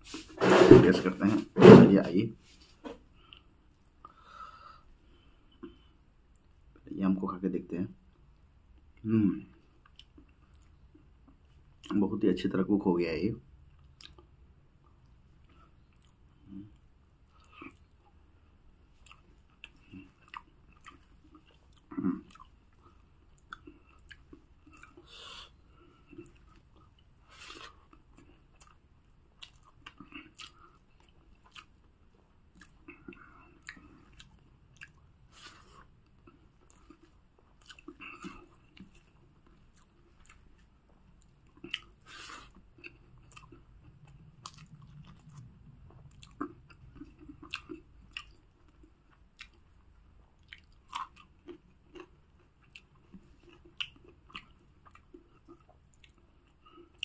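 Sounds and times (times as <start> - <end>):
person chewing: 8.7 - 11.9, 13.7 - 18.2, 18.8 - 57.0.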